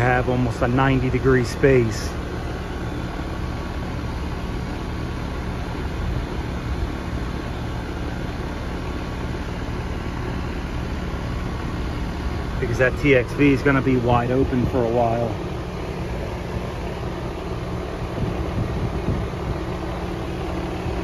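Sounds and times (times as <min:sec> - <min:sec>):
compressor humming: 0:00.0 - 0:21.0
condenser fan rushing: 0:00.0 - 0:21.0.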